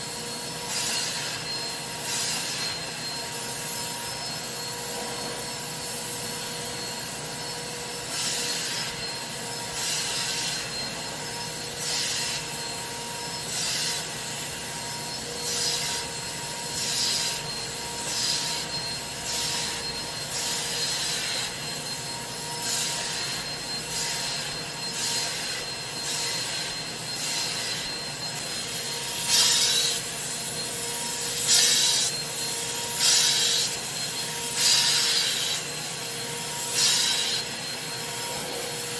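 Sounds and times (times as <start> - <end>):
carpet cleaning machine humming: 0.0 - 38.9.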